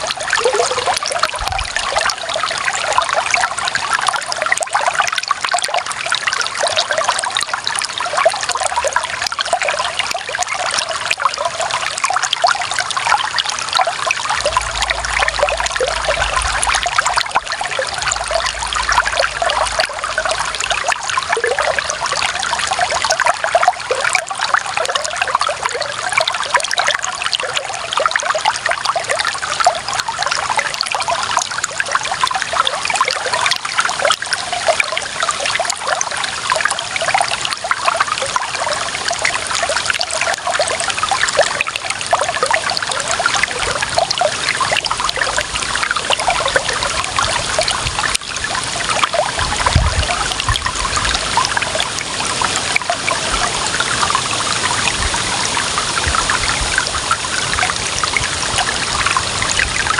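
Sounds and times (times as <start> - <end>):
running water trickling: 0.0 - 59.9.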